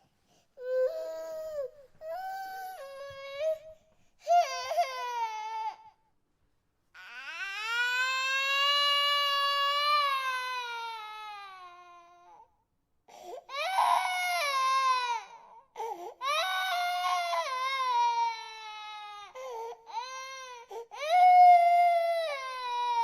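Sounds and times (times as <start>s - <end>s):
baby crying: 0.6s - 6.0s, 7.0s - 12.5s, 13.5s - 23.0s.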